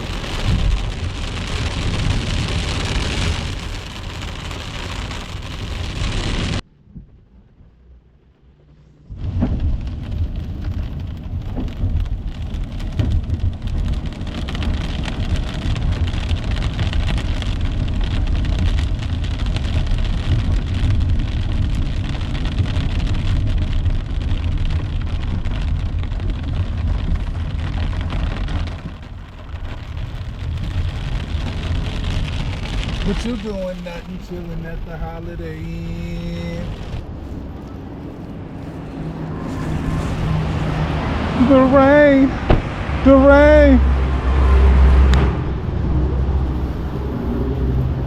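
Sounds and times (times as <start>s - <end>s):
heavy rain: 0.0s - 6.6s, 7.7s - 48.0s
car road rumble: 0.0s - 48.0s.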